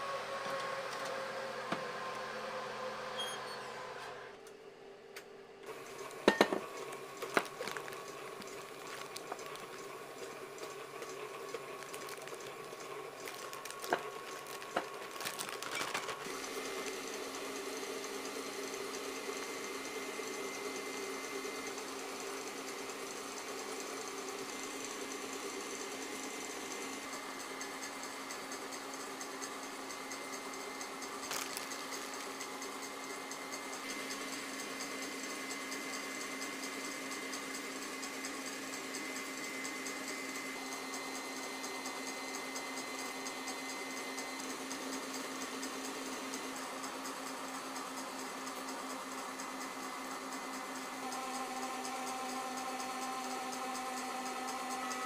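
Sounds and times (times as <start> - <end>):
kitchen machinery humming: 0.0 - 5.0, 5.6 - 55.0.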